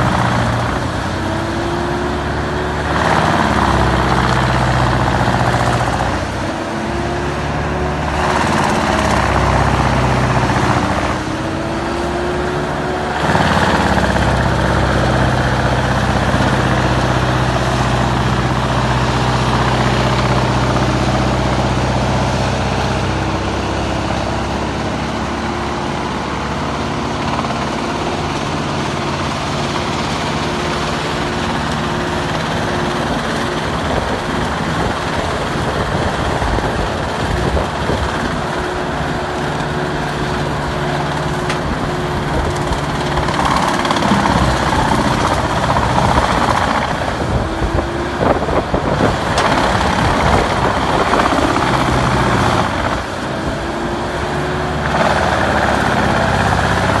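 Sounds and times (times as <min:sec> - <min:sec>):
engine drone: 0:00.0 - 0:57.0
wood chipper grinding branches: 0:00.0 - 0:57.0.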